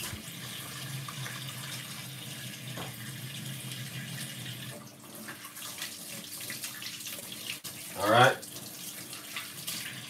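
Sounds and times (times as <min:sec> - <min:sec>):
water running: 0:00.0 - 0:10.0.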